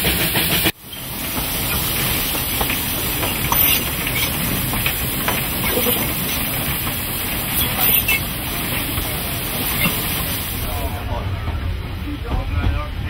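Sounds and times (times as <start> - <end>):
steam train hissing and running: 0.0 - 13.0.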